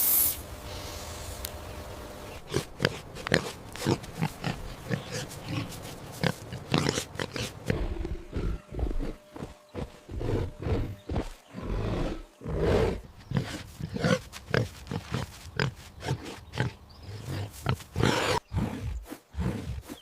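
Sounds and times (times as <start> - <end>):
animal grunting: 2.3 - 20.0.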